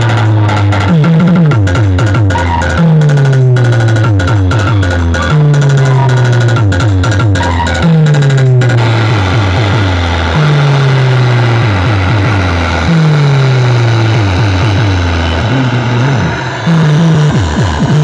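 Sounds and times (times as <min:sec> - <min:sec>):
loud electronic bass music: 0:00.0 - 0:18.0
slow falling tone: 0:00.0 - 0:18.0.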